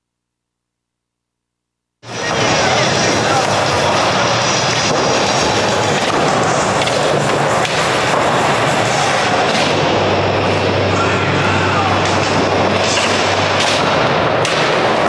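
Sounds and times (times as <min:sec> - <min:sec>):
skateboard wheels rolling on wood: 0:02.0 - 0:15.0.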